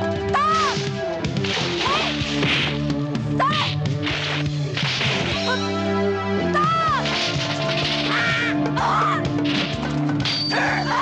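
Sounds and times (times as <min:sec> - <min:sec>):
background music with held tones: 0:00.0 - 0:11.0.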